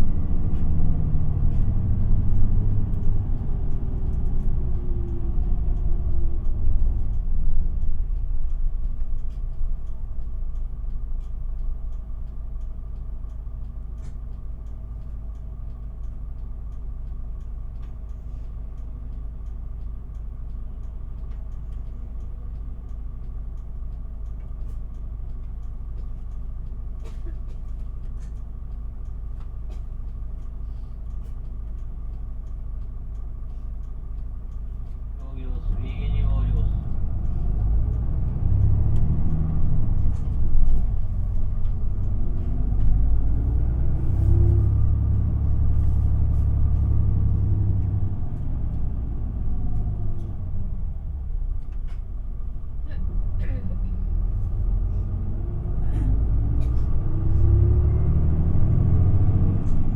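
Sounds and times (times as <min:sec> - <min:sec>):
bus engine idling: 0:00.0 - 0:59.9
bus engine winding down with whine: 0:00.0 - 0:59.9.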